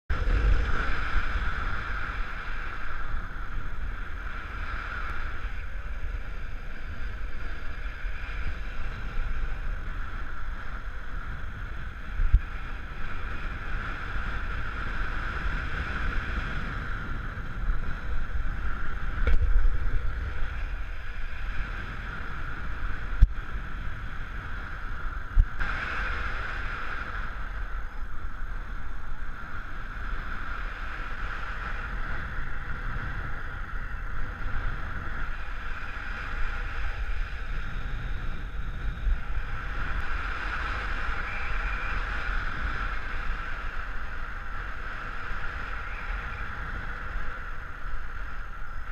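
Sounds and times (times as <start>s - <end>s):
wind rumble with whistle: 0.1s - 48.9s.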